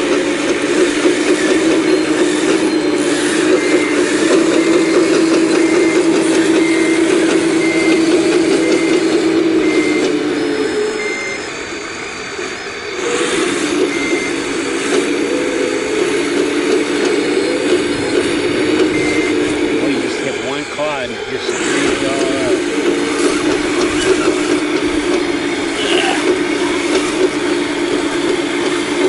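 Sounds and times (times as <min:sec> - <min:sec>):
excavator diesel engine working: 0:00.0 - 0:29.0
reversing alarm beeps: 0:00.1 - 0:25.9.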